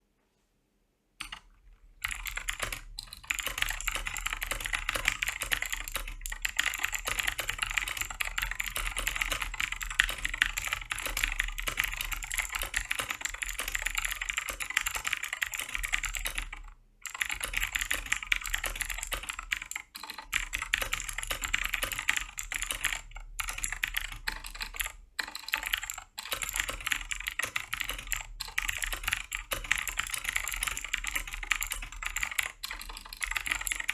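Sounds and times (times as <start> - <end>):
typing on mechanical keyboard: 1.2 - 33.9.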